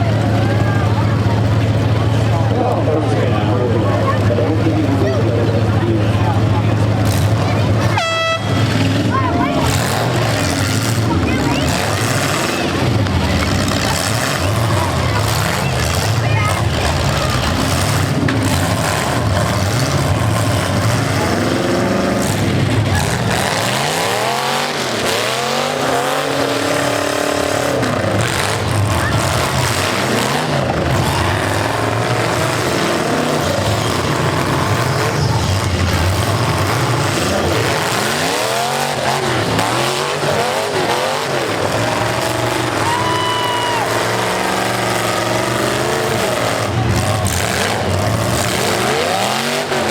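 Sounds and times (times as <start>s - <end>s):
car engines revving hard: 0.0s - 49.9s
din of engine noise: 0.0s - 49.9s.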